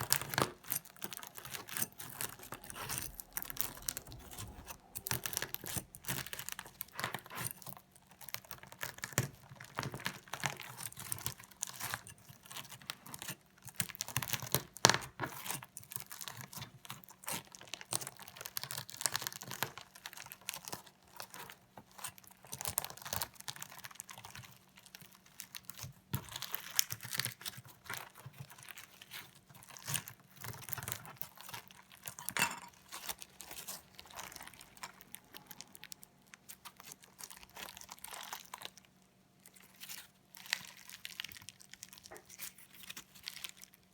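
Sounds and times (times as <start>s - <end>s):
slime crunching and crackling: 0.0s - 43.9s.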